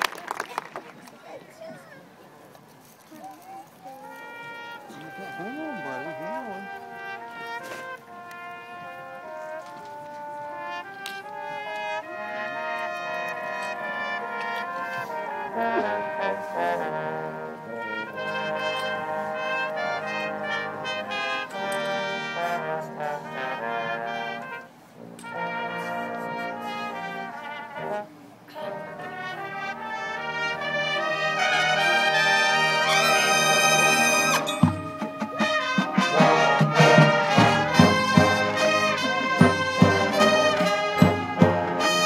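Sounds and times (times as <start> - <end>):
brass marching band playing chords: 3.9 - 42.0.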